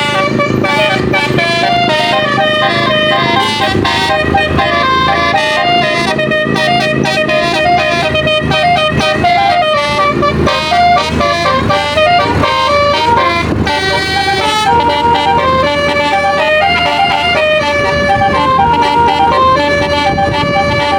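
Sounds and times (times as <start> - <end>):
multi-tone bus horn melody: 0.0 - 20.9.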